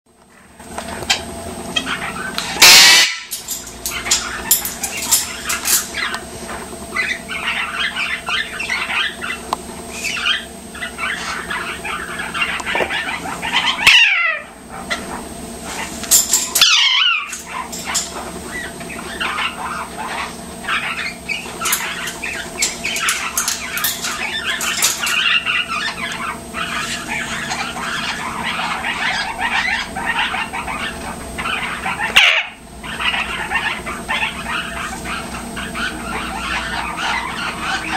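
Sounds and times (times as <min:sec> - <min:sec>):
parrot chattering: 0:01.7 - 0:03.3, 0:06.9 - 0:15.1, 0:16.5 - 0:37.9
parrot squawks: 0:01.8 - 0:03.4, 0:07.0 - 0:14.5, 0:16.6 - 0:37.9.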